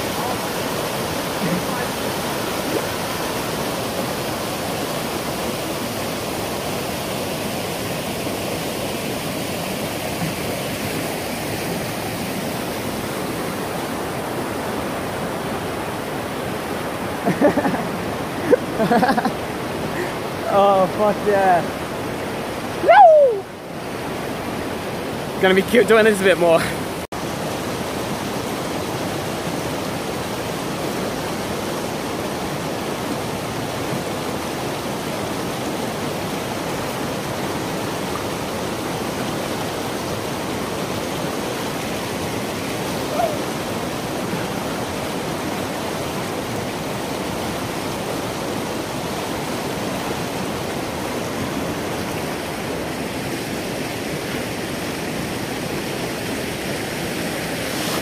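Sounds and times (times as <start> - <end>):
creek rapids rushing: 0.0 - 58.0.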